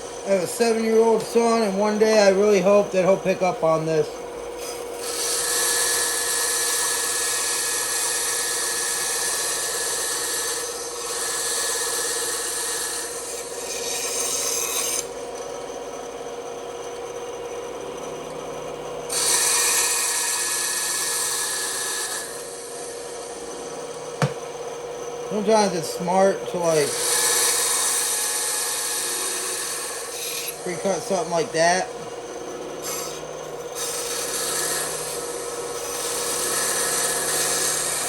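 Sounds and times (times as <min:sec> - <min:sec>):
saw blade cutting wood: 0:00.0 - 0:15.2, 0:19.1 - 0:24.4, 0:25.3 - 0:38.0
bandsaw humming: 0:00.0 - 0:38.0.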